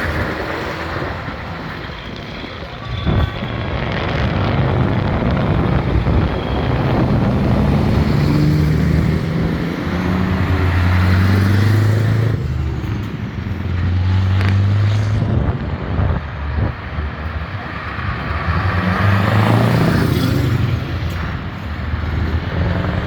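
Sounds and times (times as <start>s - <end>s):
trucks driving past: 0.0s - 23.0s.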